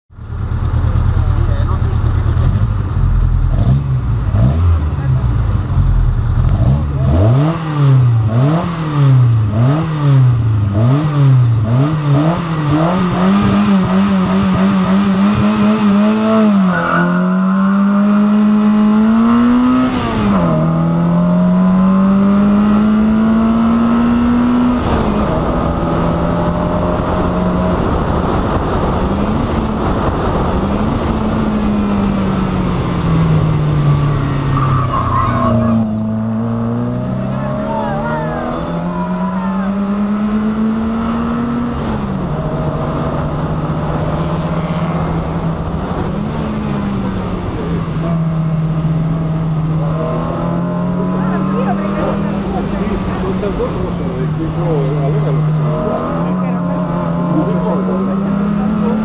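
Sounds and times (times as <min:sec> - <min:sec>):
race car engine revving: 0:00.2 - 0:59.0.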